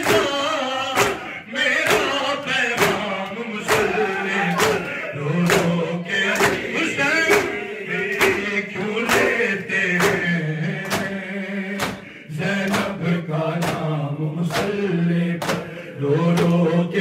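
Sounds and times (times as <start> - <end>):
hands slapping chests: 0.0 - 6.7, 7.3 - 11.2, 11.8 - 13.0, 13.6 - 14.8, 15.4 - 16.6
men chanting in a group: 0.0 - 17.0.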